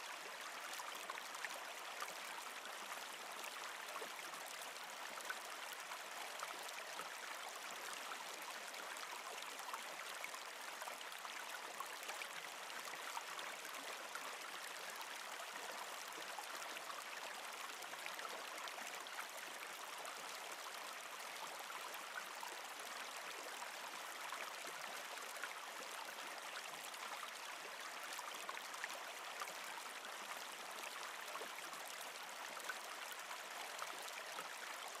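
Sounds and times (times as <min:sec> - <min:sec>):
stream flowing: 0:00.0 - 0:35.0.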